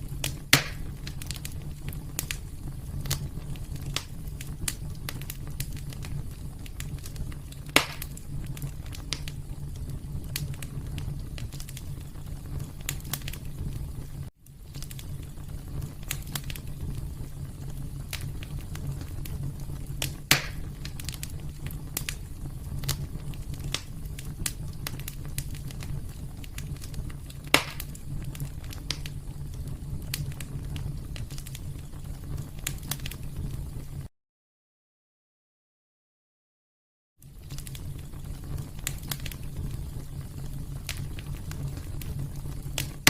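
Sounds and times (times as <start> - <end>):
loud fire pops: 0.0 - 34.1, 37.2 - 43.0
wood fire crackling: 0.0 - 34.1, 37.2 - 43.0.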